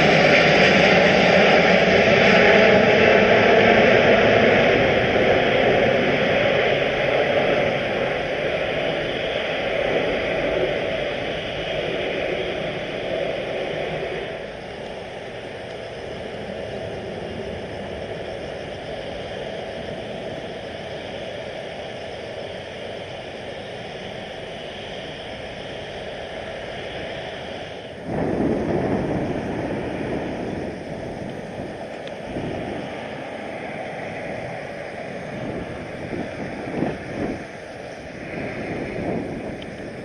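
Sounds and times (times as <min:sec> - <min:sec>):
jet engine rush: 0:00.0 - 0:40.0.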